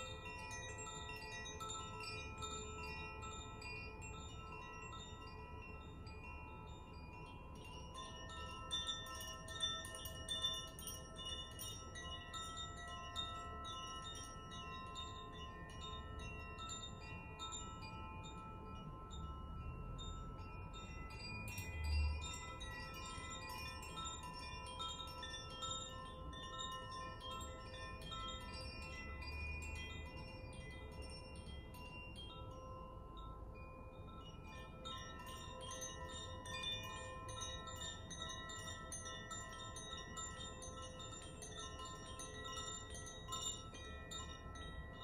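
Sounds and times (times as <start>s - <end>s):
wind chimes ringing: 0.0s - 45.0s.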